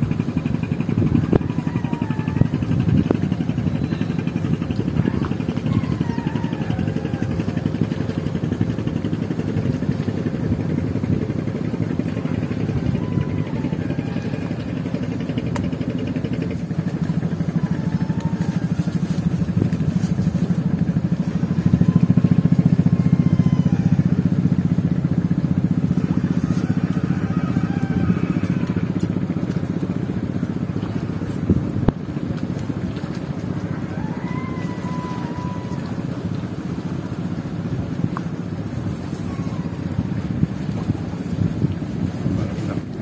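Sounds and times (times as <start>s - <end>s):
small engine running: 0.0s - 43.0s.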